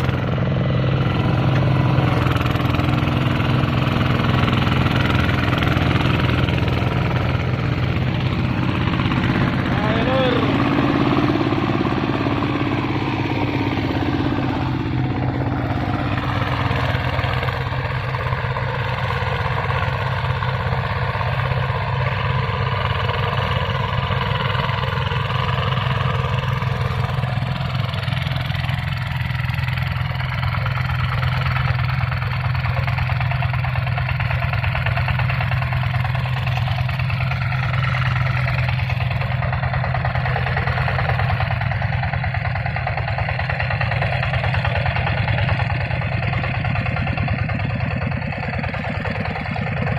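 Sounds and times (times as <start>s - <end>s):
hand tractor engine running: 0.0s - 49.9s.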